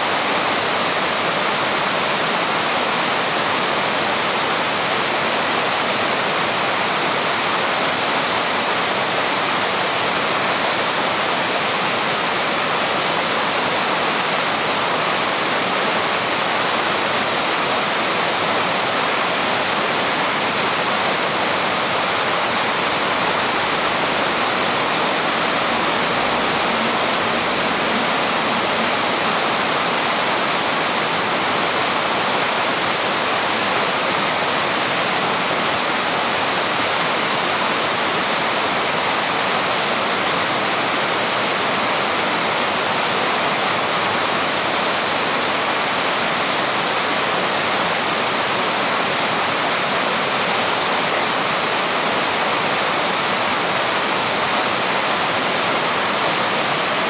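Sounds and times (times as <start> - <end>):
waterfall pouring over rock: 0.0 - 57.0.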